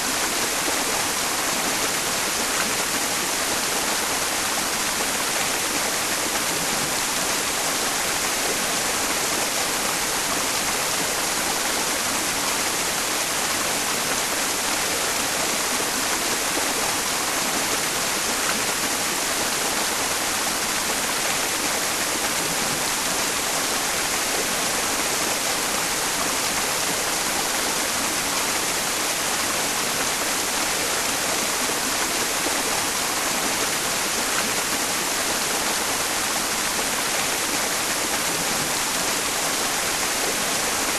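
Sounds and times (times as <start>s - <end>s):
mountain stream running: 0.0s - 40.9s
steady white noise hiss: 0.0s - 40.9s.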